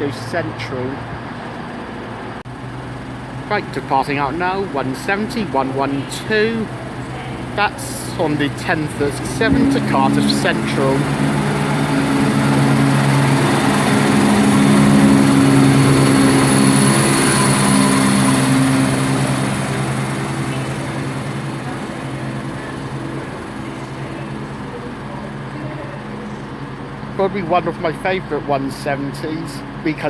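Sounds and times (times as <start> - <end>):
diesel train engine drone: 0.0 - 30.0.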